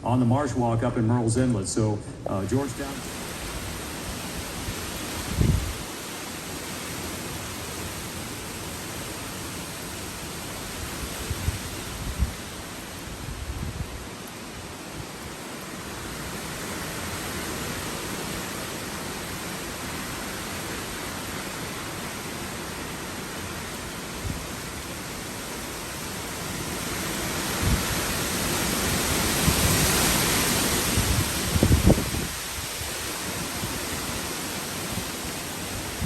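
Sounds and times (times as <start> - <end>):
wind and rain rushing: 0.0 - 36.0.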